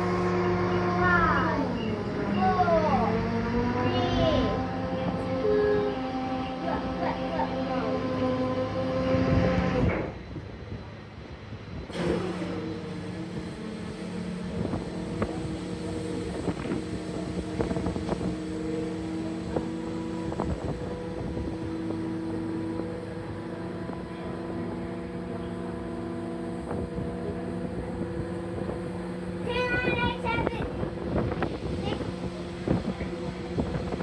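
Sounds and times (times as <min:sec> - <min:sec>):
boat engine running: 0:00.0 - 0:10.2, 0:11.9 - 0:34.0.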